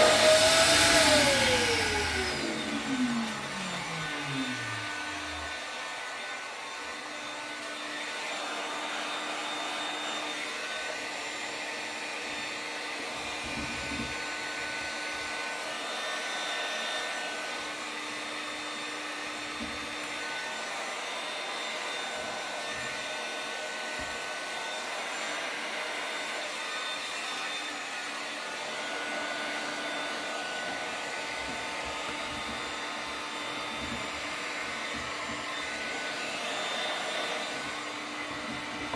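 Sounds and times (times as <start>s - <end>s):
electric motor whining: 0.0s - 38.9s.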